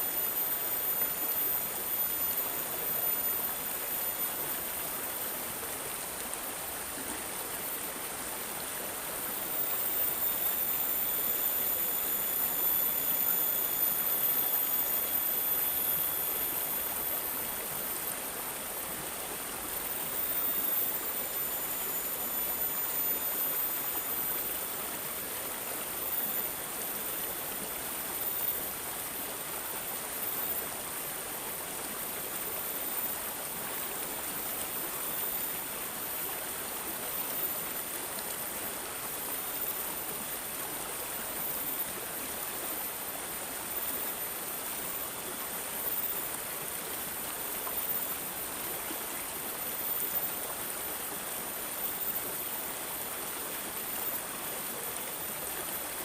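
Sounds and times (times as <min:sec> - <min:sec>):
water gurgling and babbling: 0:00.0 - 0:56.0.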